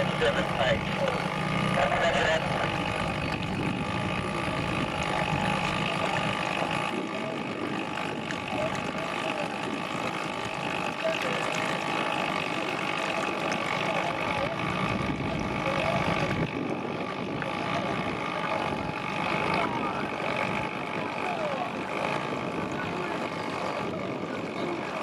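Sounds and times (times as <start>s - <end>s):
motorboat engine running: 0.0s - 25.0s
water noise: 0.0s - 25.0s
wind: 0.0s - 25.0s.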